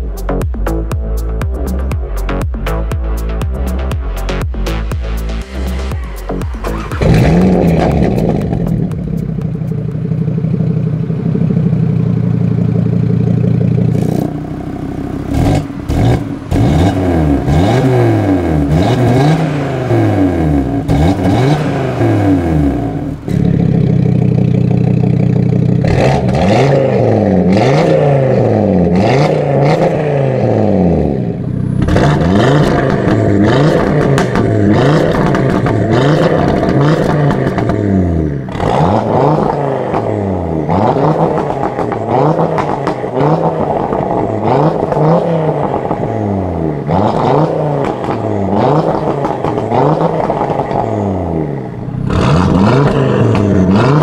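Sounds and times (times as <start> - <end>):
car engine revving: 0.0 - 54.0
exhaust cracks: 0.2 - 54.0.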